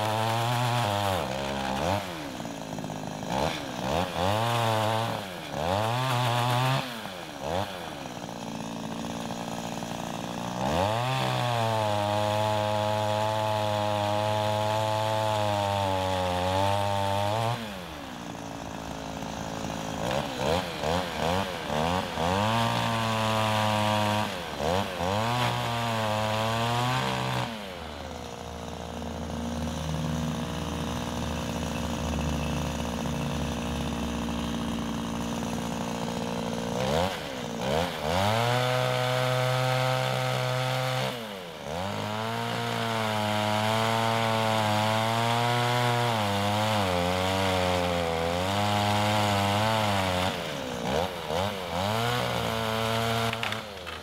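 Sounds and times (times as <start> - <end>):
electric pole saw whining: 0.0 - 54.0
saw chain cutting branch: 0.0 - 54.0.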